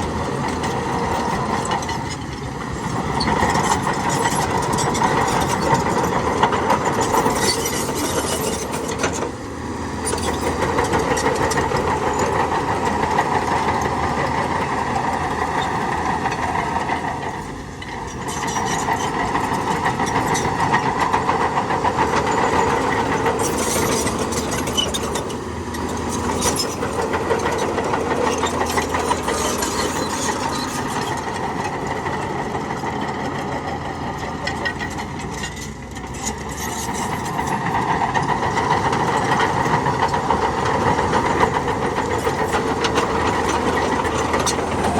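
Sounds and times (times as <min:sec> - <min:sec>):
diesel earthmoving machinery running: 0:00.0 - 0:44.9.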